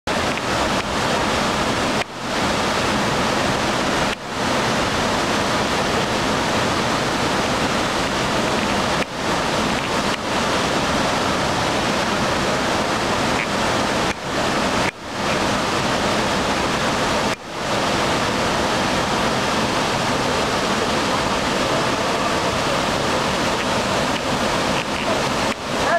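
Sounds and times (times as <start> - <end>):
waterfall rushing: 0.1 - 25.9.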